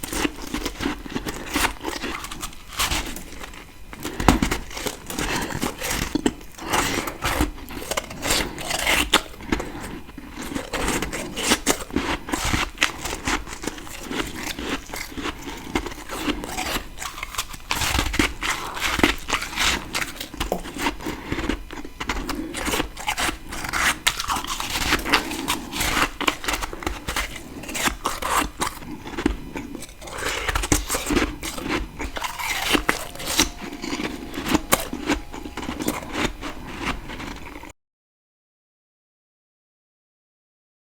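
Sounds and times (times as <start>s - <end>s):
ice being chewed and crunched: 0.0s - 37.7s.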